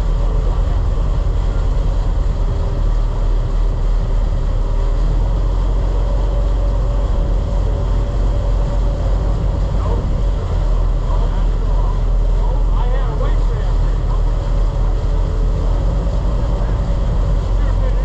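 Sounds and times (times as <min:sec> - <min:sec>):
boat engines rumbling: 0:00.0 - 0:18.0.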